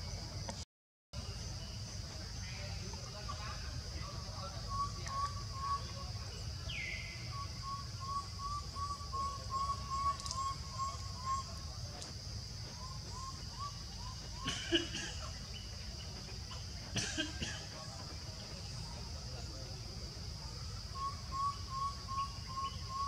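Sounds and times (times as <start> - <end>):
high insect drone: 1.2 - 23.0.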